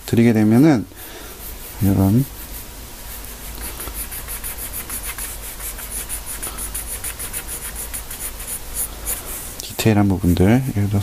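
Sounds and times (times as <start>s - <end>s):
pencil scratching on paper: 1.4s - 9.6s, 10.3s - 11.0s.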